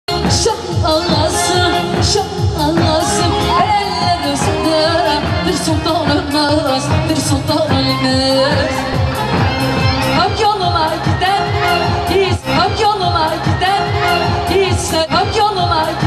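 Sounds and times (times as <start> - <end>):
driving drum beat: 0.1 - 16.0
upbeat dance music with singing: 0.1 - 16.0.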